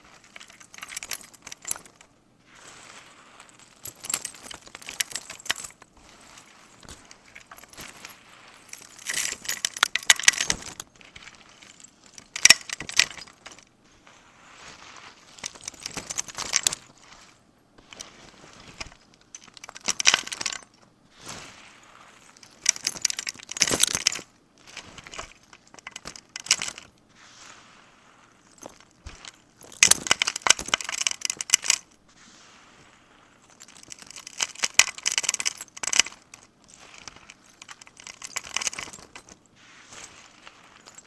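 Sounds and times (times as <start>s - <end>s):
small hard objects clattering: 0.0s - 41.0s.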